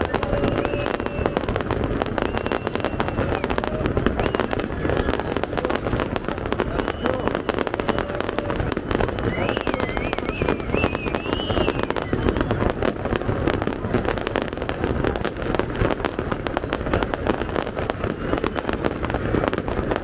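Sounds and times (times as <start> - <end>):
crowd murmuring: 0.0 - 20.0
fireworks bangs and crackles: 0.0 - 20.0.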